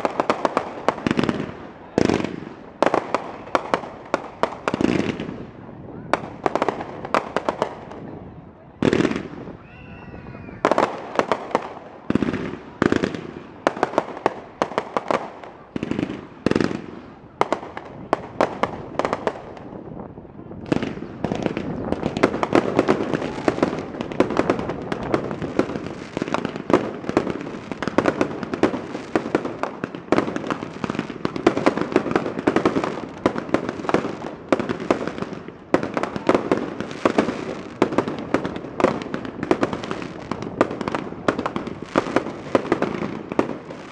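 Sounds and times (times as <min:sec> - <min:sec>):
firework crackling and popping: 0:00.0 - 0:09.8, 0:10.5 - 0:43.9
fireworks bangs: 0:00.0 - 0:43.9.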